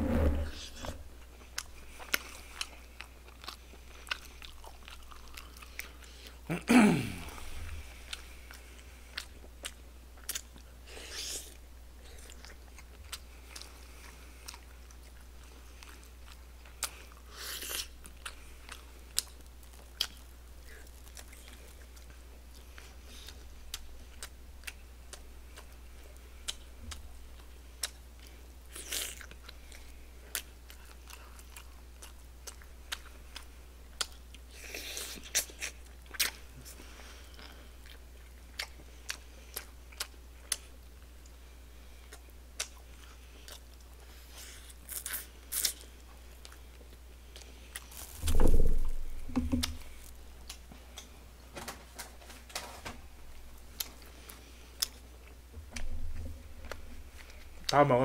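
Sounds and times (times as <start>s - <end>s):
person chewing wetly: 1.3s - 6.4s, 7.3s - 51.2s, 53.4s - 57.8s.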